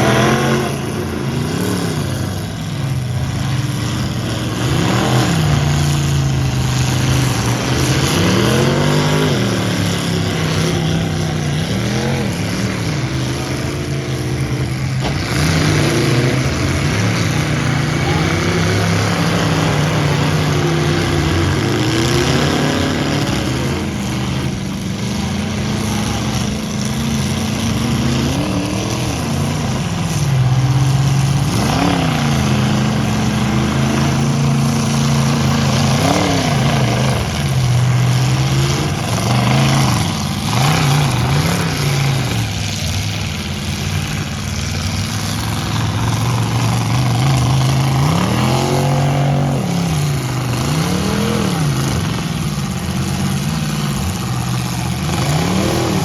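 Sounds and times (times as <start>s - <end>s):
low drone of engines: 0.0s - 56.0s
pickup truck engines revving: 0.0s - 56.0s.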